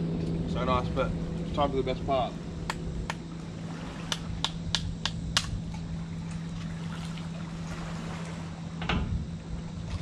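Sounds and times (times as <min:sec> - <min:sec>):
low hum: 0:00.0 - 0:10.0
wind: 0:00.0 - 0:10.0.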